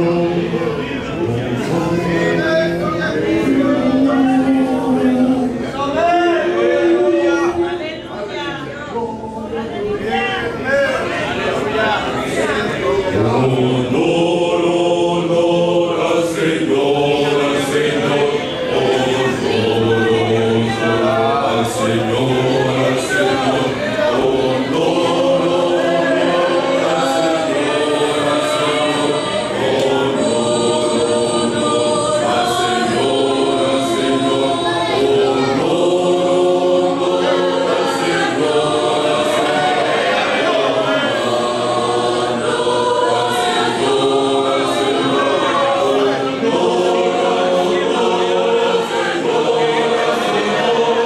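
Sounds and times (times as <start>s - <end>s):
choir singing a hymn: 0.0s - 8.2s, 11.2s - 51.0s.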